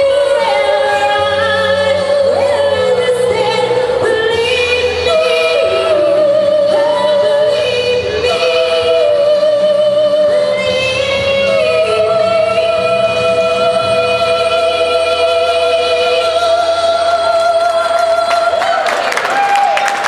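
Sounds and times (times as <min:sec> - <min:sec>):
person singing with vibrato: 0:00.0 - 0:20.0.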